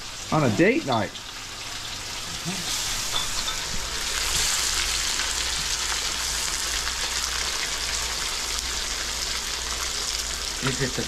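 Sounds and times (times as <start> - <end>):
food sizzling in woks: 0.0 - 11.0.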